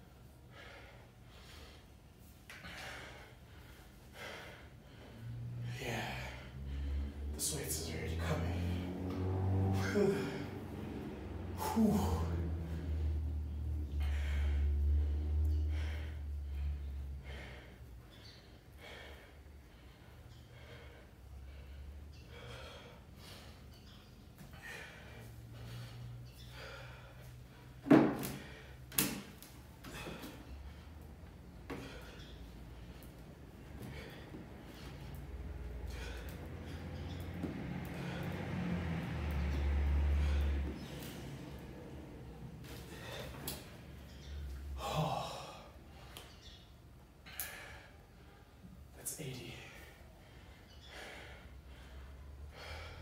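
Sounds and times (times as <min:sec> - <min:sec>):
heavy breathing: 0:00.0 - 0:53.0.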